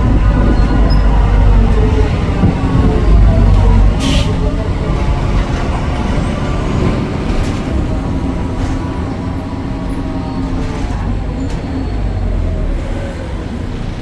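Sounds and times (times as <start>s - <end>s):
bus diesel engine rumble: 0.0s - 14.0s.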